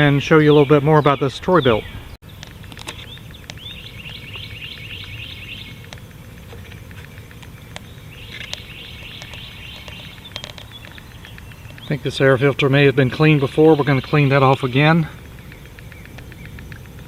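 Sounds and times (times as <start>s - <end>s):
bird trilling: 0.0s - 17.0s
low outdoor rumble: 0.0s - 17.0s
light clicks: 2.3s - 17.0s.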